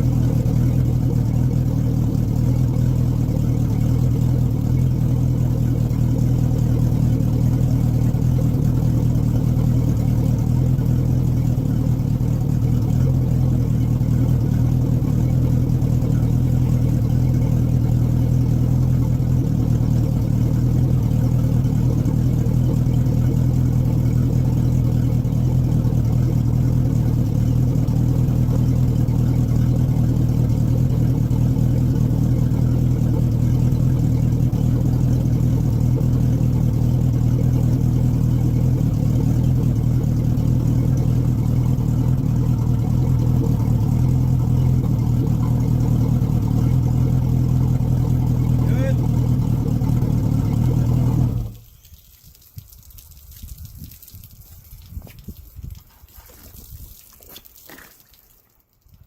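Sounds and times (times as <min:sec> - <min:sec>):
boat engine idling: 0:00.0 - 0:51.7.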